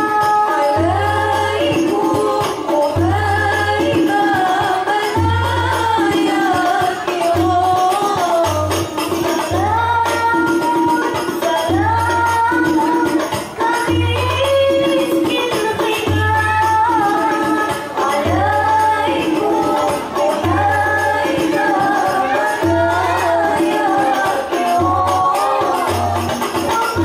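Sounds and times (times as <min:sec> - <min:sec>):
frame drums beaten: 0:00.0 - 0:27.0
women singing devotional melody: 0:00.0 - 0:27.0.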